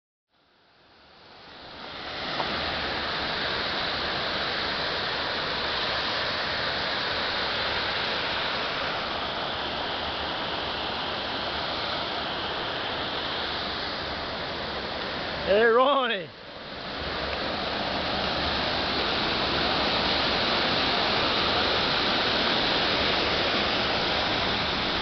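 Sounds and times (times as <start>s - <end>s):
waterfall roaring: 0.8s - 25.0s.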